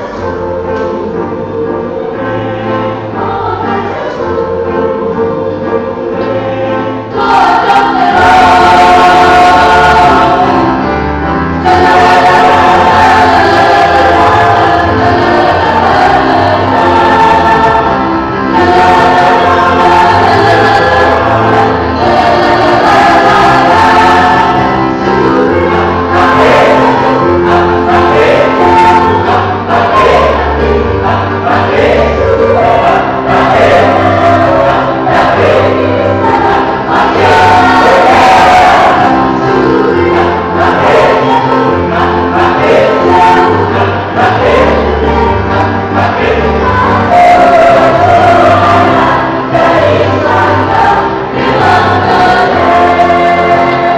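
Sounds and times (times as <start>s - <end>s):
choir singing in harmony: 0.0s - 53.9s.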